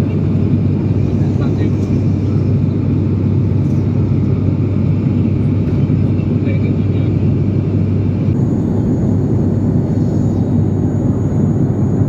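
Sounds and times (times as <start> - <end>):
airliner engine and airflow drone: 0.0 - 12.0
constant low hum: 0.0 - 12.0.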